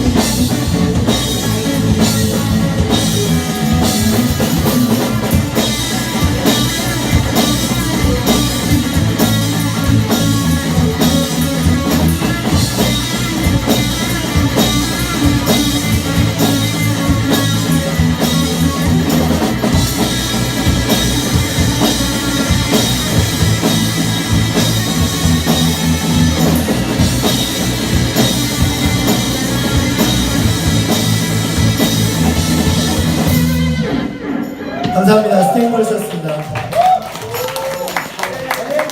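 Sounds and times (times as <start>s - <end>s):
bass guitar: 0.0s - 35.3s
drum kit beat: 0.0s - 35.9s
electric guitars: 0.0s - 38.9s.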